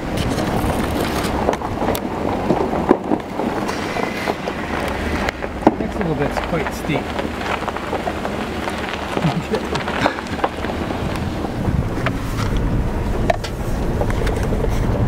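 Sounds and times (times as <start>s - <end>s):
gravel crackling under tyres: 0.0s - 15.0s
vehicle road and engine rumble: 0.0s - 15.0s.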